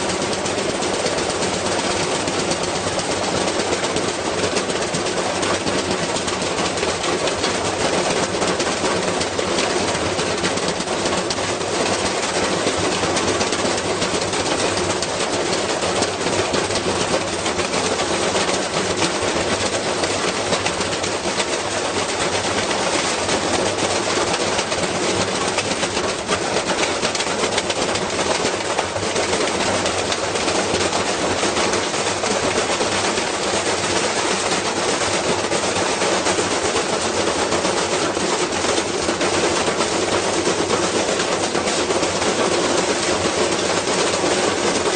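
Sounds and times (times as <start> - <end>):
washing machine rattling and knocking: 0.0 - 44.9.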